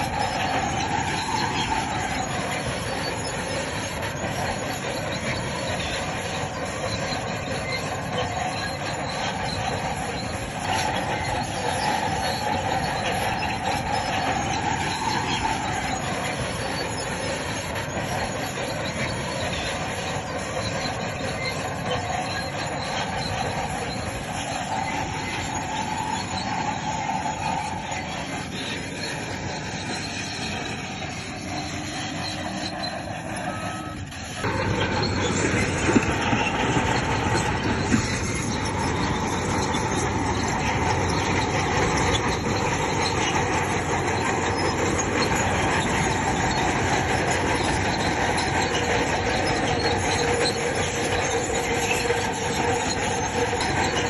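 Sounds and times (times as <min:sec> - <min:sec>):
bulldozer diesel engine under load: 0:00.0 - 0:54.0
steel tracks squealing and clanking: 0:00.0 - 0:54.0.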